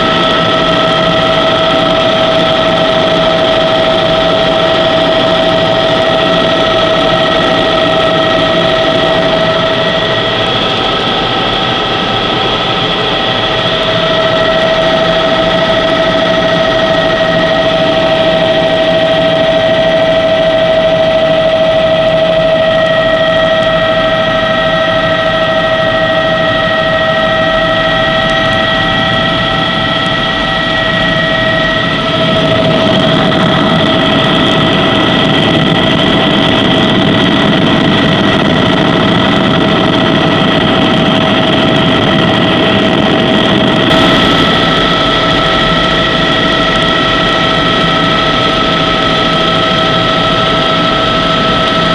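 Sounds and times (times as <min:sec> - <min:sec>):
helicopter engine and rotor: 0:00.0 - 0:51.9.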